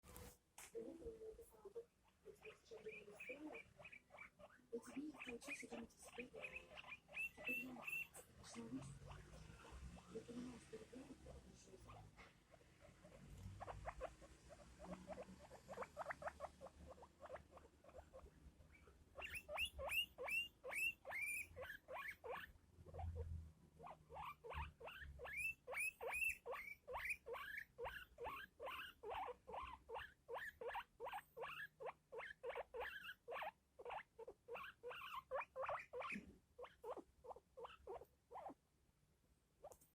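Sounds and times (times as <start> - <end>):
guinea pig wheeking: 0.8 - 38.6, 39.6 - 39.9.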